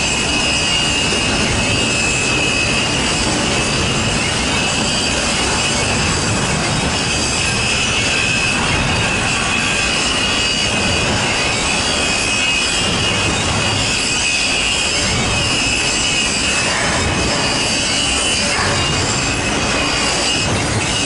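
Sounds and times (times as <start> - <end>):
freight train rumbling on rails: 0.0 - 21.0
train wheels squealing: 0.0 - 21.0.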